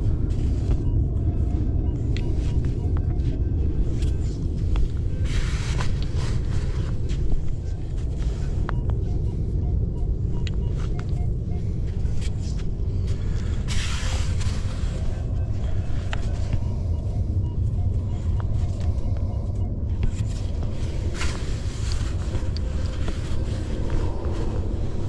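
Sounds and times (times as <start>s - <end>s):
metal detector beeps: 0.0s - 13.0s, 13.8s - 21.3s
low microphone rumble: 0.0s - 25.0s.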